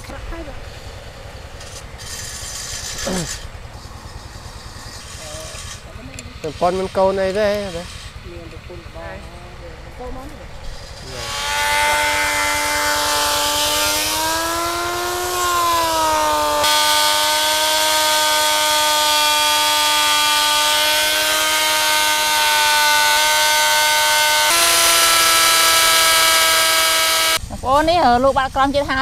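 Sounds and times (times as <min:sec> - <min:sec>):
power tool motor whining: 0:00.0 - 0:27.4.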